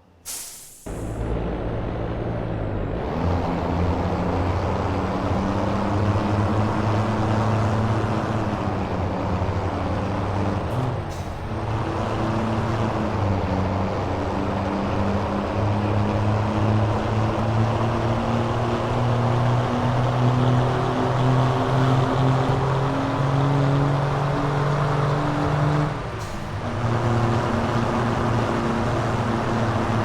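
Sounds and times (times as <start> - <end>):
diesel truck engine running: 0.2 - 30.0.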